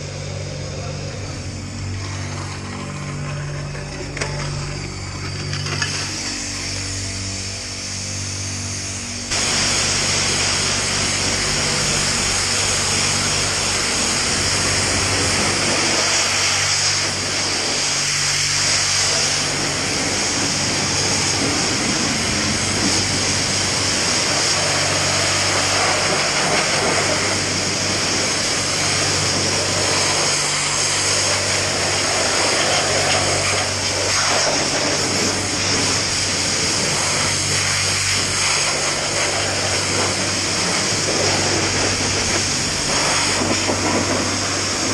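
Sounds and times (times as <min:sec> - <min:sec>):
pressure washer jet hissing: 0:00.0 - 0:44.9.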